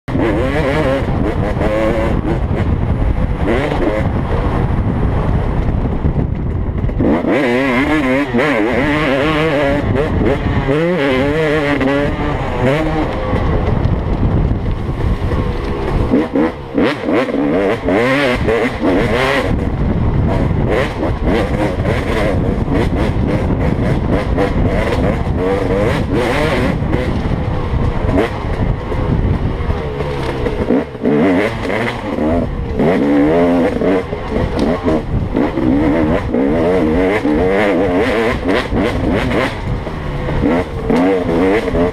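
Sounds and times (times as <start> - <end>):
dirt bike engine revving: 0.0 - 41.9
wind rushing: 0.2 - 41.9.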